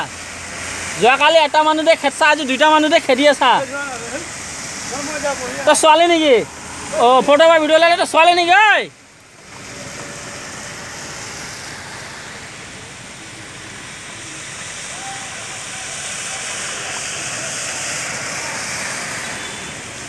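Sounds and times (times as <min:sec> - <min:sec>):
rain on a wet road: 0:00.0 - 0:20.0
tyres hissing on wet road: 0:00.0 - 0:20.0.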